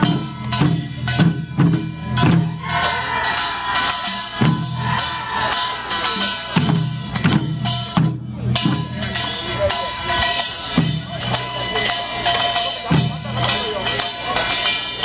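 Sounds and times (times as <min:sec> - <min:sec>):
drums in driving rhythm: 0:00.0 - 0:15.0.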